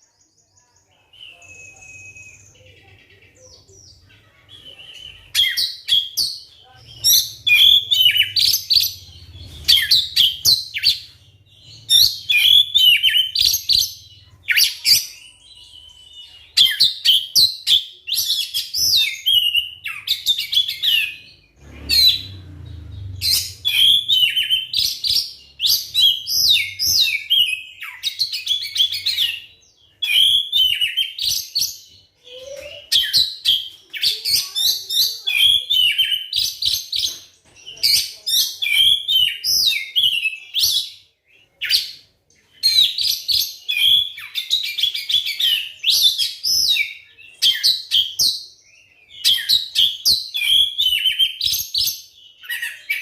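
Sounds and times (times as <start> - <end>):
bird singing whistles and chatter: 0.0 - 53.0.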